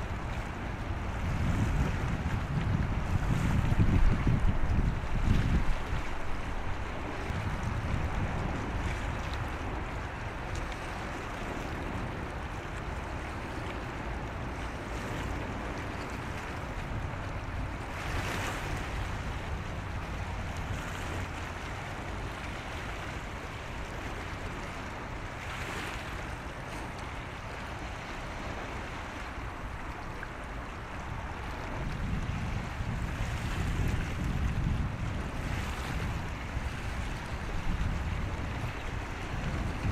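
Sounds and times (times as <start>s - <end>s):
waves washing on shore: 0.0s - 39.9s
wind buffeting microphone: 0.0s - 39.9s.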